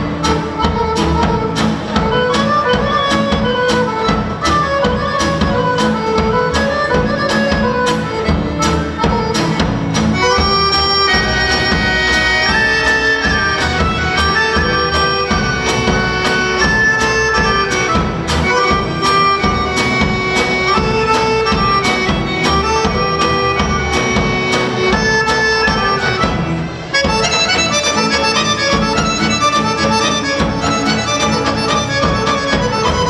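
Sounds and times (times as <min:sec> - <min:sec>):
lively folk dance music: 0:00.0 - 0:33.0.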